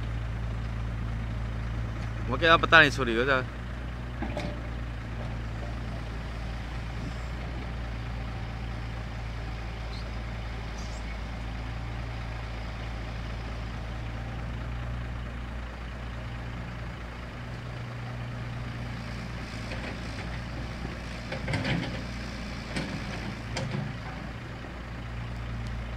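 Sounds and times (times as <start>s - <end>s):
truck diesel engine running: 0.0s - 25.9s.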